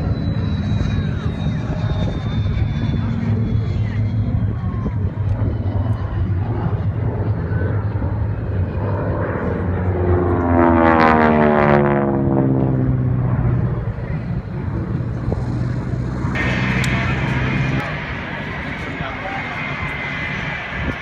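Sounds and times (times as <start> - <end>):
propeller airplane flying past: 0.0 - 21.0.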